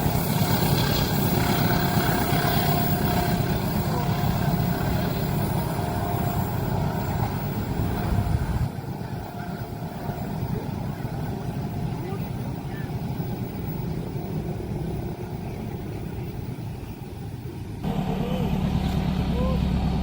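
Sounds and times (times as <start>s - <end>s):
faint high whine: 0.0s - 20.0s
train rumbling: 0.0s - 20.0s.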